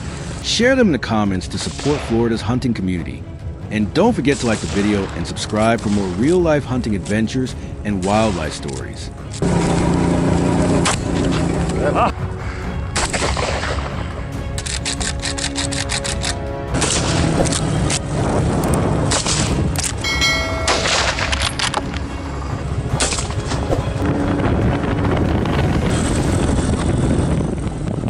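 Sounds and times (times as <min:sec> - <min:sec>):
cinematic music with booms: 0:00.0 - 0:28.0.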